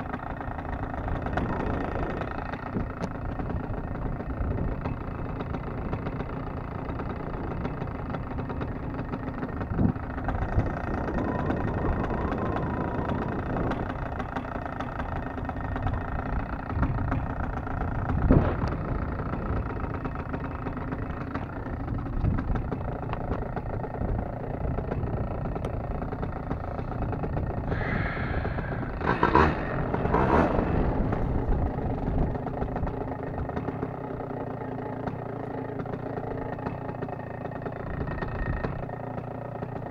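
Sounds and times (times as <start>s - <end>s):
paramotor engine idling: 0.0s - 39.9s.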